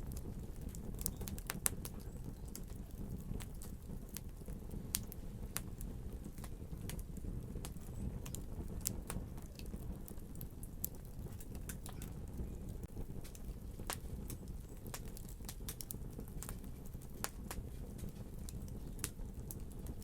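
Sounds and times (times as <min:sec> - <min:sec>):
fire low rumble: 0:00.0 - 0:20.0
wood fire crackling and popping: 0:00.0 - 0:20.0.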